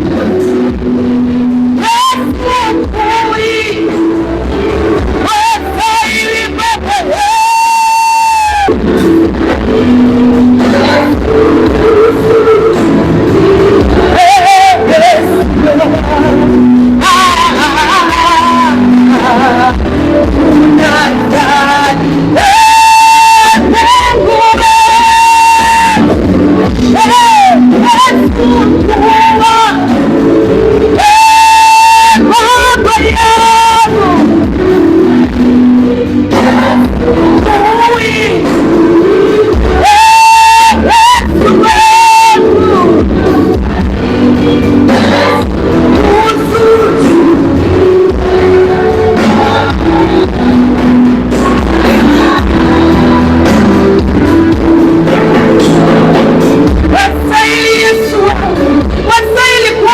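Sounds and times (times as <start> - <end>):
band accompaniment: 0.0 - 59.9.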